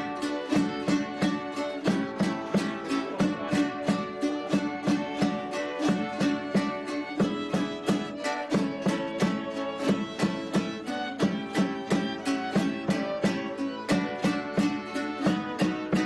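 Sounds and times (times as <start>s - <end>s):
strummed string instruments: 0.0s - 16.0s
violin melody: 0.0s - 16.0s.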